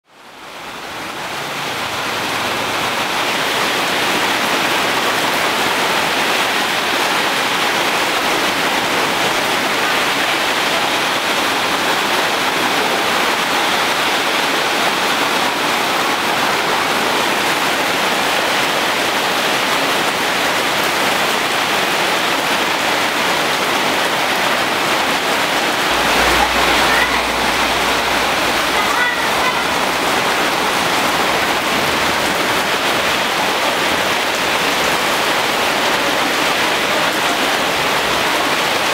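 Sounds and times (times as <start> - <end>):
heavy rain on foliage: 0.0 - 38.9.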